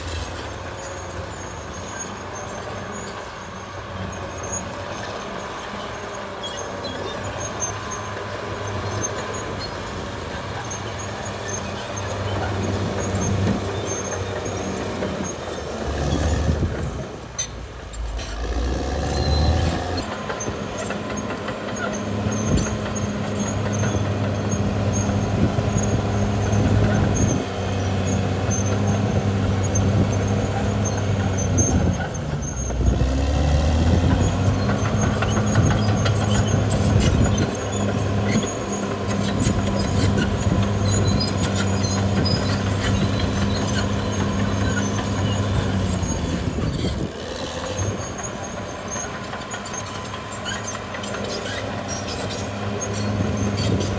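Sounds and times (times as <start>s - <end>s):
bulldozer diesel engine running: 0.0s - 53.9s
steel tracks clanking: 0.0s - 53.9s.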